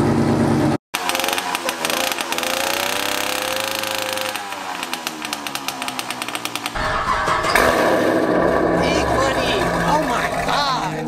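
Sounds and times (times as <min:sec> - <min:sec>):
small two-stroke engine running: 0:00.0 - 0:11.0
deep car exhaust: 0:01.9 - 0:11.0.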